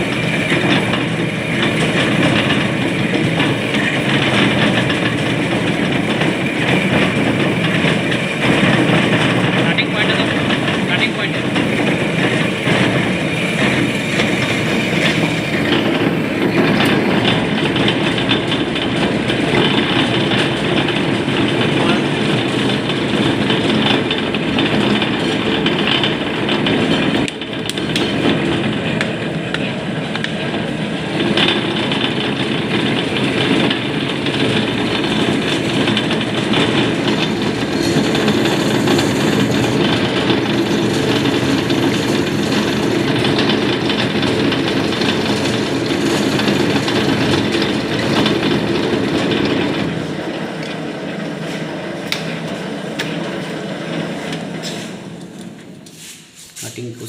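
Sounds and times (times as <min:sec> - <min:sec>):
lathe running with rattle: 0:00.0 - 0:56.4.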